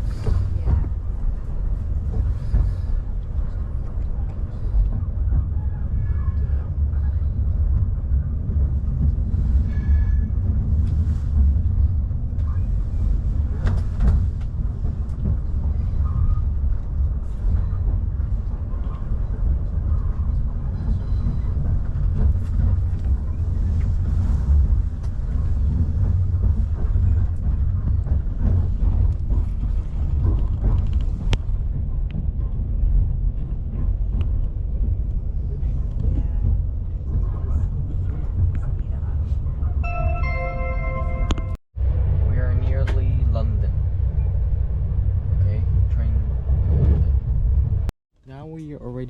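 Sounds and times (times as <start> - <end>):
train carriage rumble: 0.0 - 49.0.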